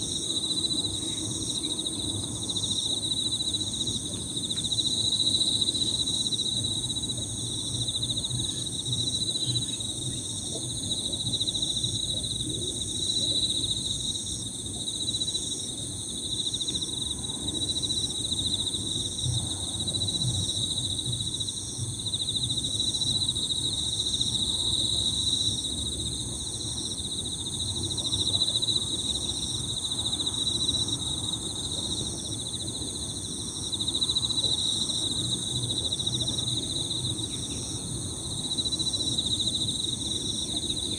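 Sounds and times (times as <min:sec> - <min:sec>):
crickets trilling chorus: 0:00.0 - 0:40.9.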